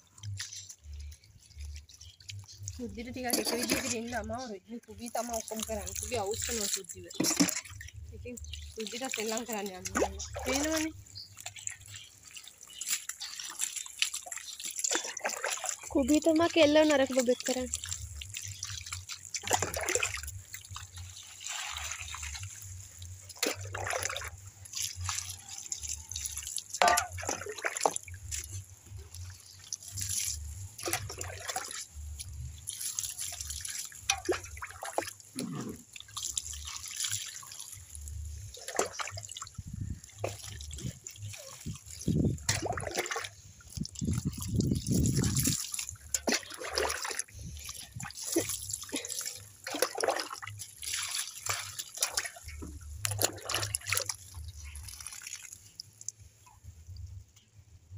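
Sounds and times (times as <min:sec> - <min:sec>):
water pouring and splashing: 0:00.0 - 0:57.2.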